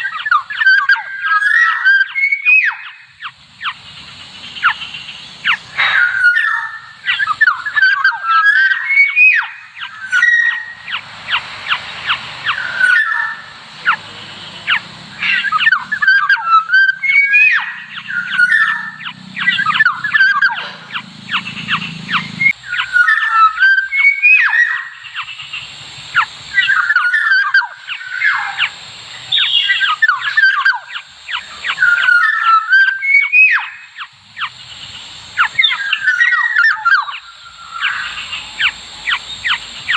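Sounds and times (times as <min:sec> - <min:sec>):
birds whistling calls: 0:00.0 - 0:39.9.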